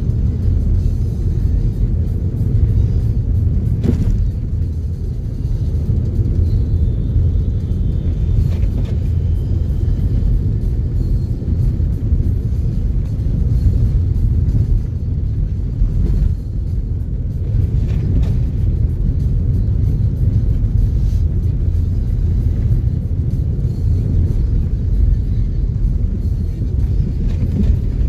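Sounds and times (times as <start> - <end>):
vehicle cabin road and engine rumble: 0.0 - 28.0.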